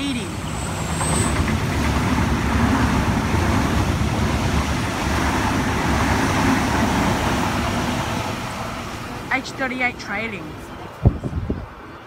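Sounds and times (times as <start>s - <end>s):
electric train passing at speed: 0.0s - 12.0s.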